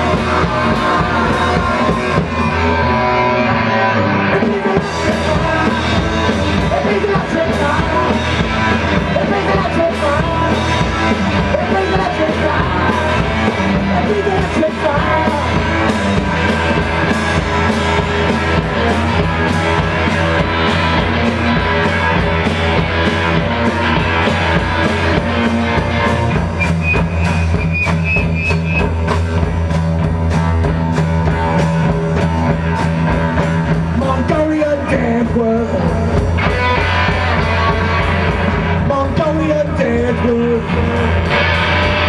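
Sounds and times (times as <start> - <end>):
rock band playing live: 0.0 - 42.0
drum and cymbal hits: 4.4 - 42.0.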